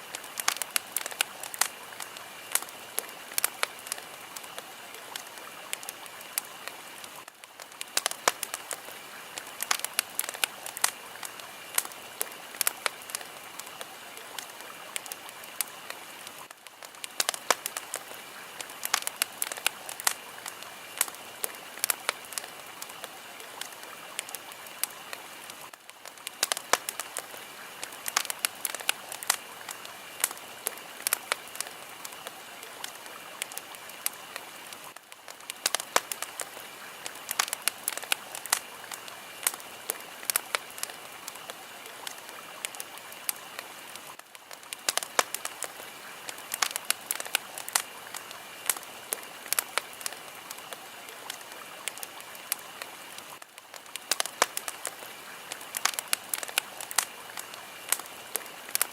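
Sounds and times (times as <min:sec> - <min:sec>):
fire crackling and popping: 0:00.0 - 0:58.9.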